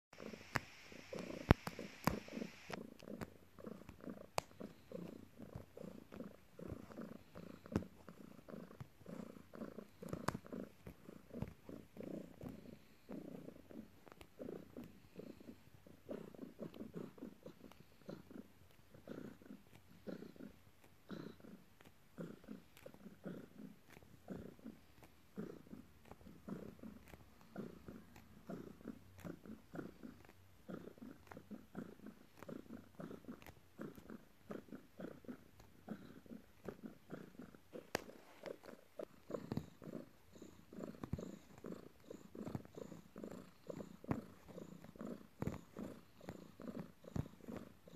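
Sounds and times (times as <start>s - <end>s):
cat purring: 0.2s - 47.9s.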